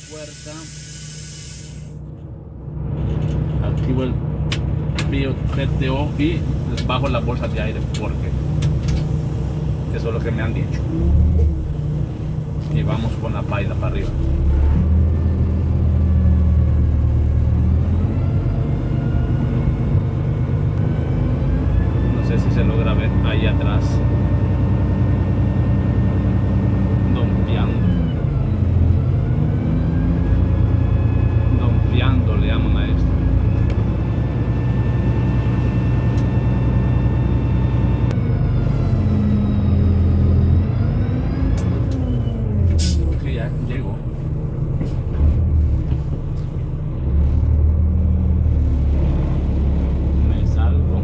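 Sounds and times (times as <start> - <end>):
diesel truck engine under load: 0.0 - 51.0.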